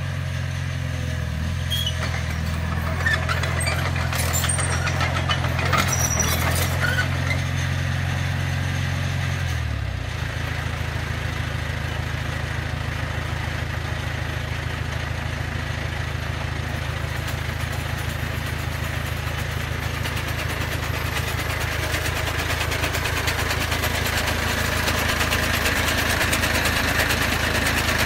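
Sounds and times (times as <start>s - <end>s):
bulldozer diesel engine rumbling: 0.0s - 28.0s.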